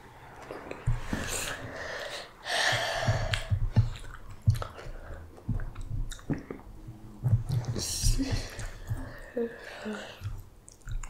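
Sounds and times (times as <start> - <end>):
person chewing food: 0.4 - 9.4, 10.0 - 11.0.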